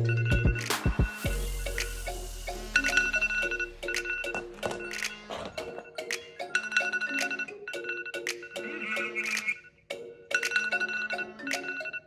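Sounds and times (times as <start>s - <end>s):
phone ringtone melody: 0.0s - 12.0s.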